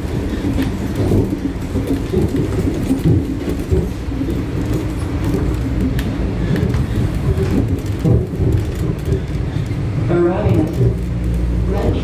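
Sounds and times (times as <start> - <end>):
faint clicks and rattles: 0.0 - 12.0
subway train wheels rumbling: 0.0 - 12.0.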